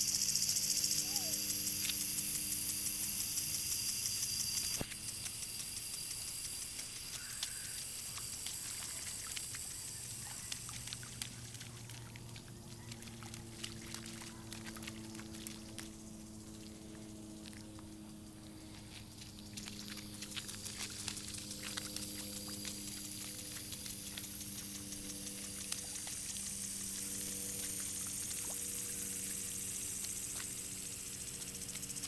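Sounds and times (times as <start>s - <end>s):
water trickling in a gutter: 0.0s - 32.0s
small feet splashing in puddle: 4.4s - 32.0s.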